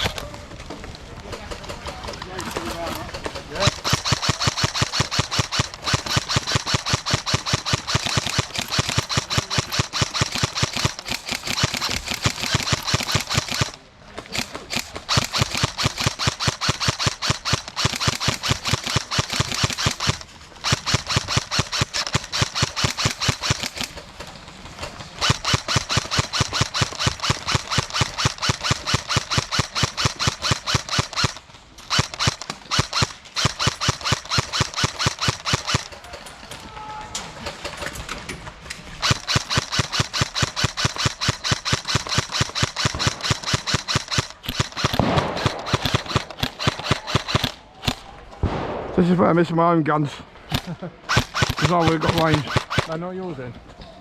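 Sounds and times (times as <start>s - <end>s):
airsoft gun rapid shots: 0.0s - 0.2s, 1.3s - 36.0s, 39.0s - 49.1s, 50.4s - 53.0s.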